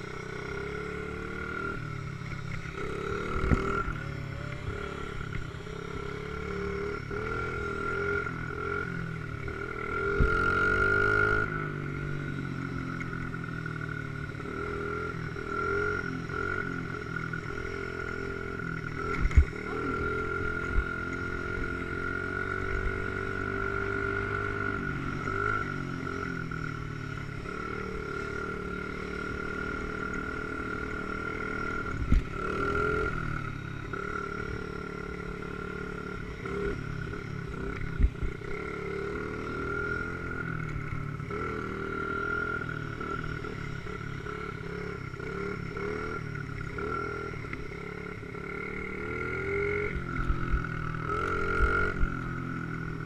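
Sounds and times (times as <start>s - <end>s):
dirt bike engine revving: 2.6s - 12.3s, 13.9s - 26.3s, 27.4s - 53.0s.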